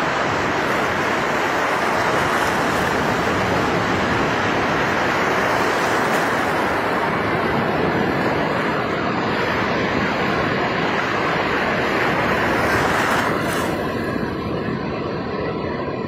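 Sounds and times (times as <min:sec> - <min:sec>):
waves breaking on shore: 0:00.0 - 0:14.8.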